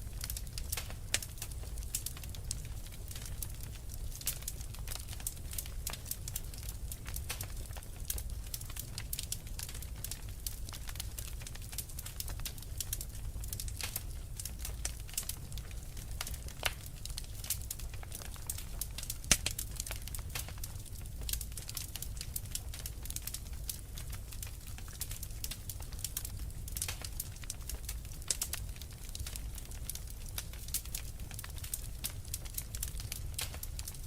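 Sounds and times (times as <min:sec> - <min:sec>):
low rumble of flames: 0:00.0 - 0:34.0
wood fire crackling: 0:00.0 - 0:34.0.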